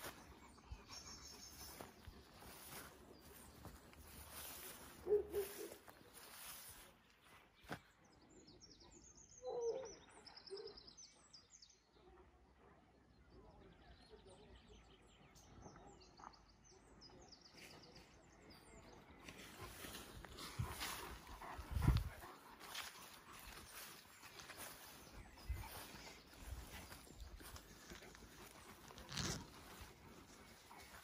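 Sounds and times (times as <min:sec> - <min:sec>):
small birds chirping: 0:00.0 - 0:11.8, 0:14.0 - 0:31.0.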